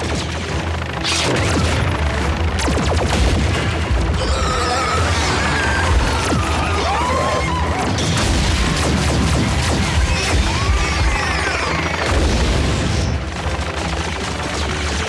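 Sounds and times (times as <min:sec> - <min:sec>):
background music: 0:00.0 - 0:15.0
rapid blaster fire: 0:00.0 - 0:15.0.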